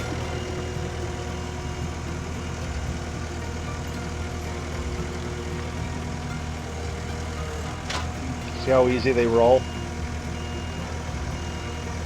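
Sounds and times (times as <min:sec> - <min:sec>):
skid steer engine running: 0:00.0 - 0:12.0.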